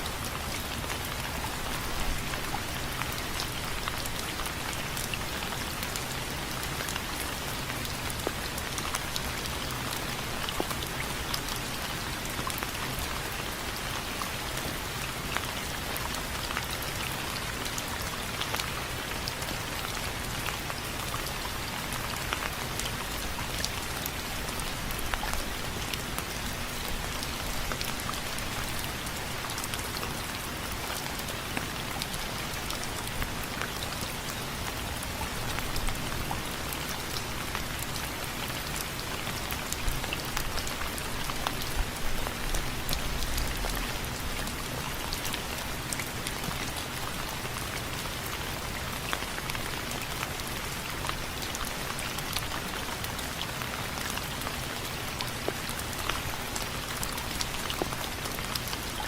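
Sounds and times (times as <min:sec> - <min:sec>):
steady rain hiss: 0:00.0 - 0:59.0
raindrops ticking on frame: 0:00.1 - 0:59.0.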